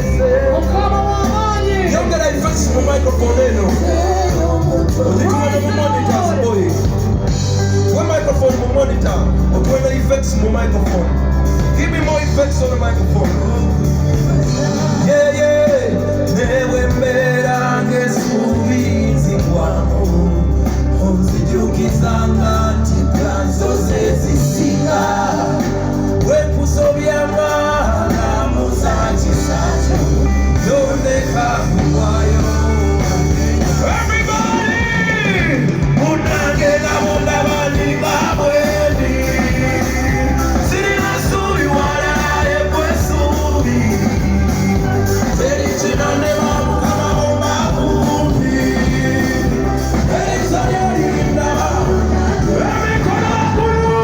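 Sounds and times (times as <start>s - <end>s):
live band music: 0.0s - 54.0s
person singing: 0.0s - 54.0s
strong bass: 0.0s - 54.0s.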